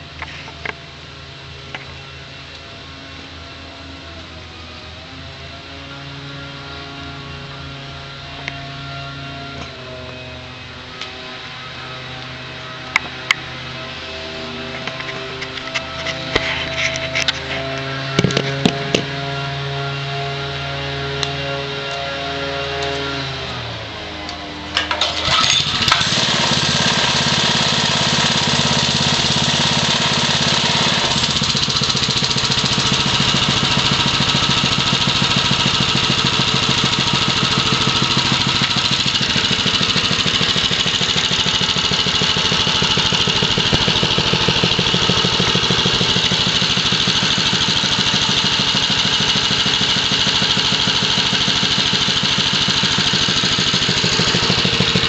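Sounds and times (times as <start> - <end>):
mini bike engine running: 3.2 - 55.0.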